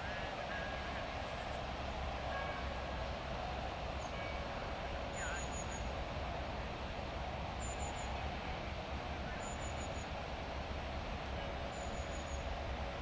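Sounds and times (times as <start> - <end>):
outdoor background rumble and hiss: 0.0 - 13.0.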